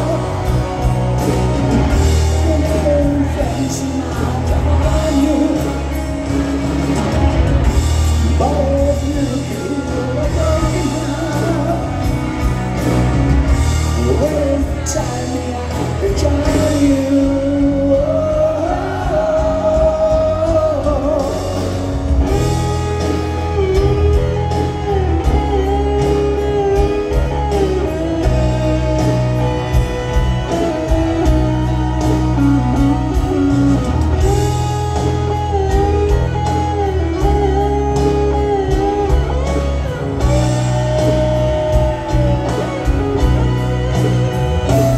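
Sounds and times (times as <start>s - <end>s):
lead electric guitar melody: 0.0s - 44.9s
live rock band: 0.0s - 44.9s.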